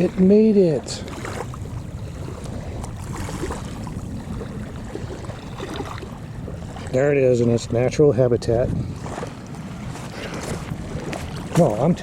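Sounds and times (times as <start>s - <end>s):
faint lapping water: 0.0s - 12.0s
wind buffeting microphone: 0.0s - 12.0s.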